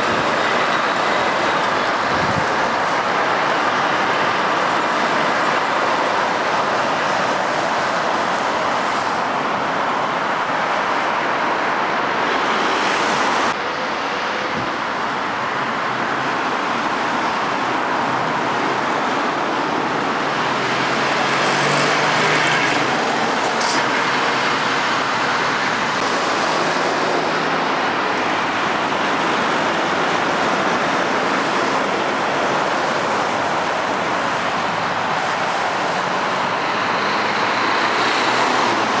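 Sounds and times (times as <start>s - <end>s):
diesel truck engines: 0.0s - 39.0s.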